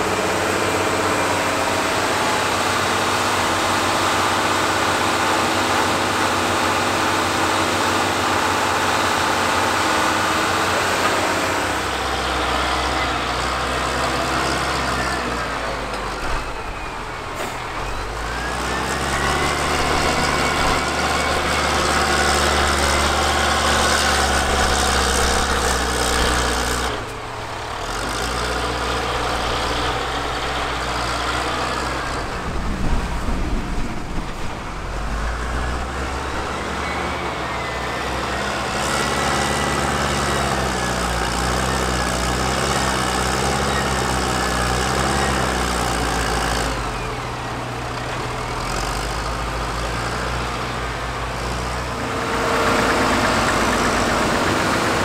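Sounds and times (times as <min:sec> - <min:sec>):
heavy machinery engines running: 0:00.0 - 0:55.0.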